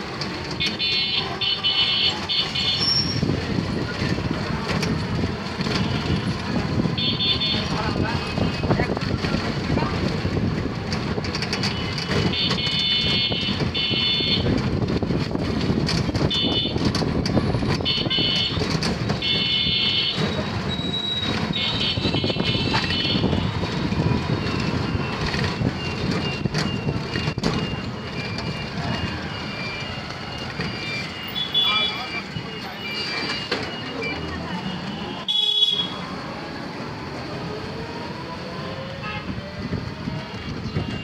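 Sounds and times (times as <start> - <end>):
rickshaw rumbling and rattling: 0.0 - 41.0.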